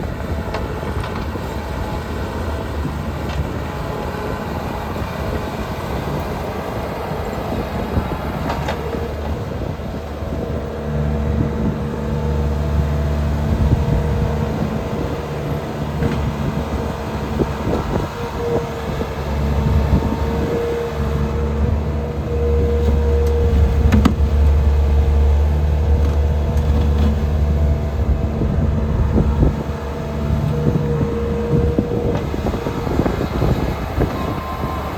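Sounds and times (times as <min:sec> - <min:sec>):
skid steer diesel engine running: 0:00.0 - 0:34.9.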